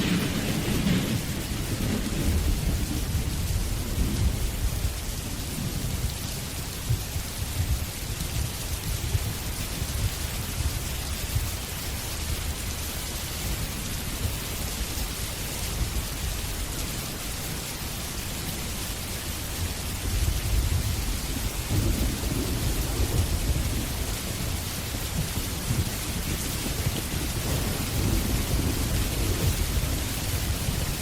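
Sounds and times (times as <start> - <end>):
heavy rain: 0.0 - 31.0
low rolling thunder: 0.0 - 31.0.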